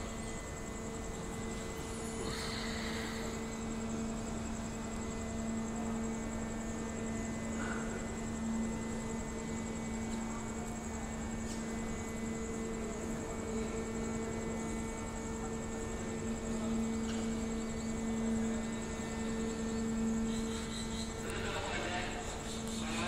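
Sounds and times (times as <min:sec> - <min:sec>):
faint high whine: 0:00.0 - 0:23.0
machinery humming: 0:00.0 - 0:23.0.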